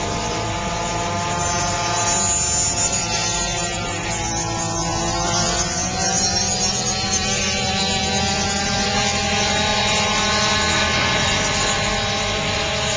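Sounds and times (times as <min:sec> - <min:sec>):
dirt bike engine running: 0:00.0 - 0:12.9.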